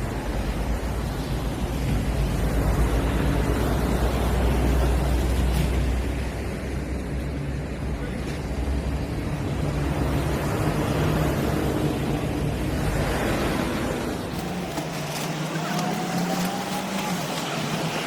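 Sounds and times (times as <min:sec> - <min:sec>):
constant wind-like noise: 0:00.0 - 0:18.0.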